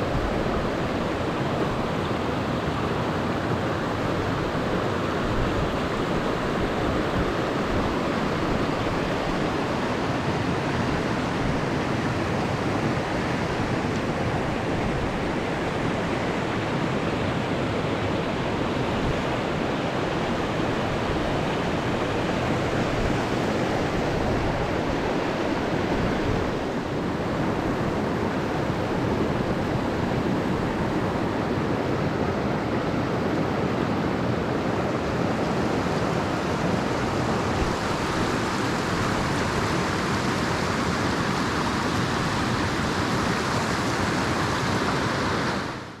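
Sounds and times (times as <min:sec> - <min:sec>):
mountain stream rushing: 0:00.0 - 0:46.0.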